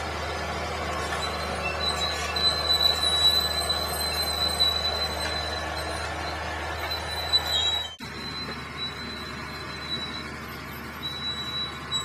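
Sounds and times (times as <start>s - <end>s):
high-pitched squeal: 0.0s - 12.0s
low engine hum: 0.0s - 12.0s.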